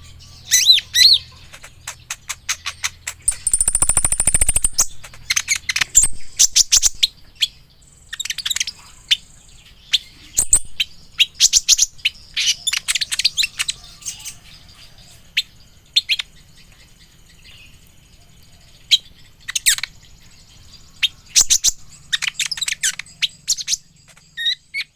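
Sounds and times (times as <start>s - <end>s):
bird twittering chirps: 0.0s - 24.9s.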